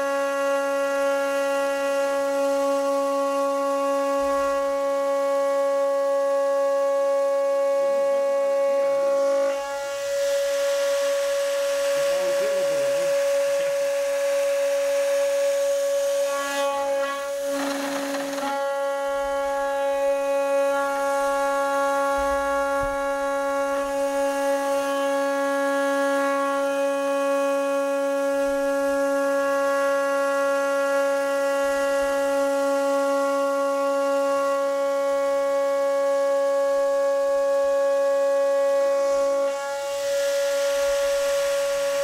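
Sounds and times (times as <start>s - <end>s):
milling machine whining: 0.0s - 42.0s.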